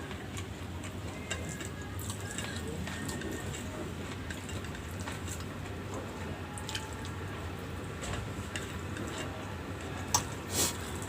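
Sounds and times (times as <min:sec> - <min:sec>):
close chewing sounds: 0:00.0 - 0:11.0.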